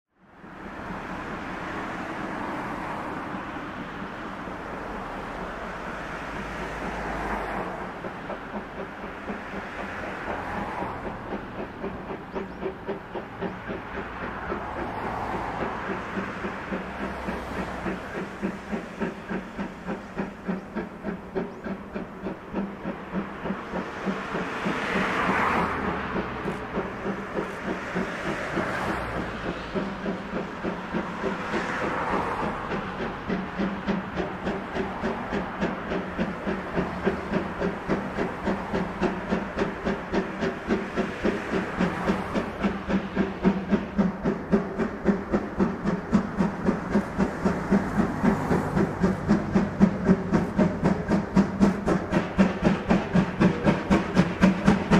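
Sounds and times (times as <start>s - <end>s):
low rumble of locomotive: 0.2s - 54.9s
steam locomotive exhaust rushing: 0.2s - 54.9s.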